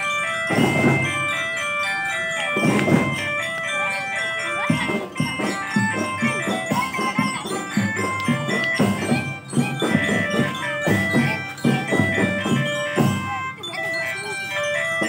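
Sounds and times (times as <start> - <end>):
bell lyre notes: 0.0 - 15.0
marching drum beats: 0.0 - 15.0.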